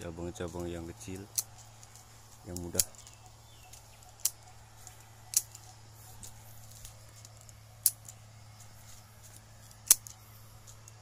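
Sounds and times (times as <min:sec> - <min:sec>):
pruning shears snipping: 0:00.0 - 0:11.0.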